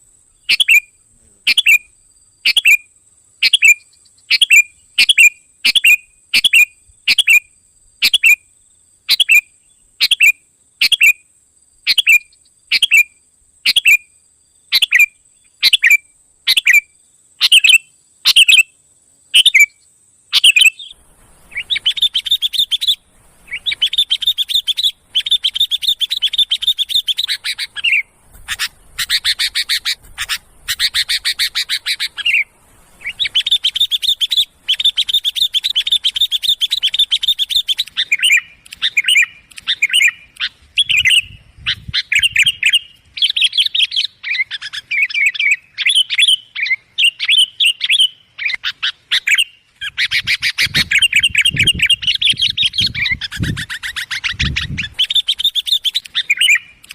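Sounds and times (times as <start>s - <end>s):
bulbuls chirping and whistling: 0.4s - 1.9s, 2.5s - 8.4s, 9.1s - 11.2s, 11.9s - 14.1s, 14.7s - 18.7s, 19.4s - 56.9s.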